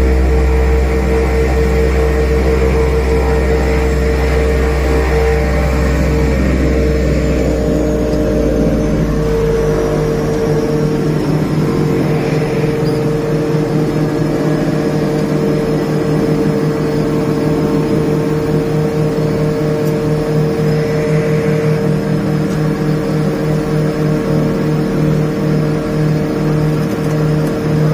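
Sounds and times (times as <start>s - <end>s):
turboprop engines droning: 0.0s - 27.9s.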